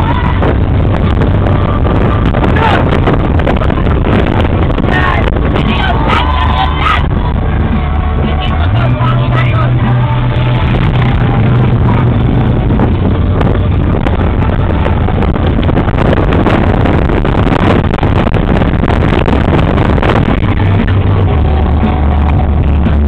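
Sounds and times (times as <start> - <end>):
music playing: 0.0 - 23.0
vehicle road noise: 0.0 - 23.0.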